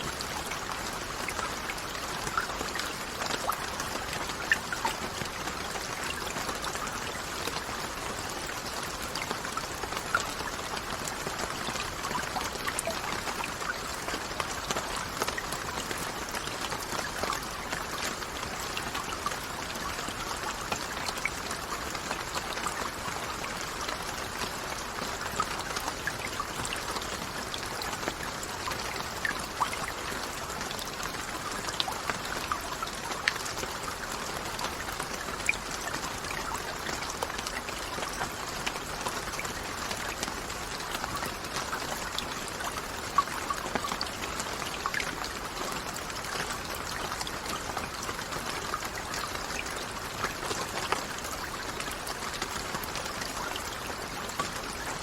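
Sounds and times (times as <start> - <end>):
steady rain with ticking drops: 0.0 - 55.0.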